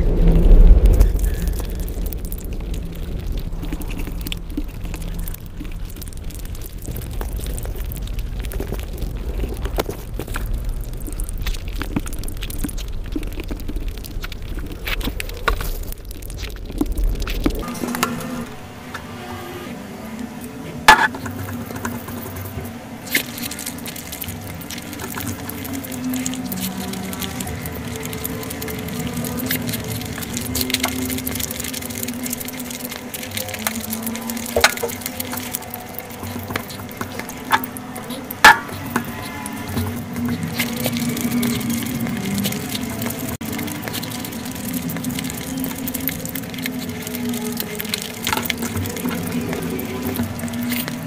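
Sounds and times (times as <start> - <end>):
sticky crackles and clicks: 0.0 - 51.0
wet food squishing: 0.0 - 51.0
mouth eating sounds: 0.1 - 19.6, 20.4 - 51.0.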